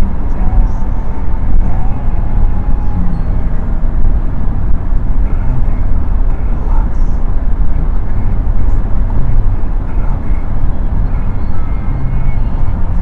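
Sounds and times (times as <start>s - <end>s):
car engine and road noise rumble: 0.0s - 13.0s.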